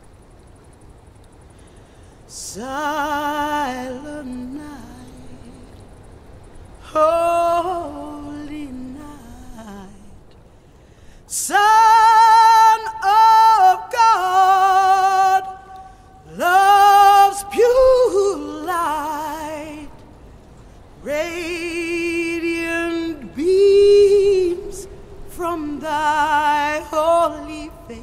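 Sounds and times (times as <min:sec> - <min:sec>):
woman singing slow melody: 0:02.3 - 0:06.0, 0:06.8 - 0:10.4, 0:11.3 - 0:20.2, 0:20.9 - 0:28.0.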